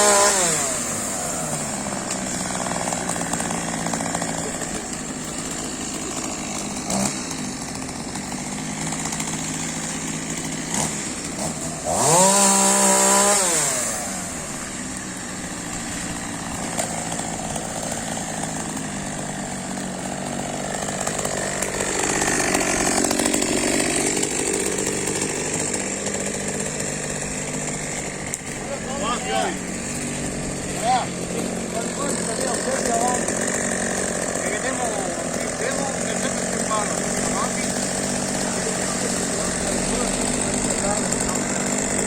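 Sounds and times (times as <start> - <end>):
chainsaw idling and revving: 0.0 - 42.0.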